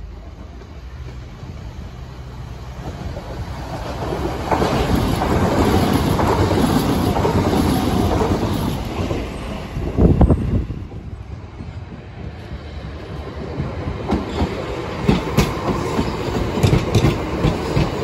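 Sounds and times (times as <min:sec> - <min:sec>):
train wheels rushing on rail: 0:00.0 - 0:18.0.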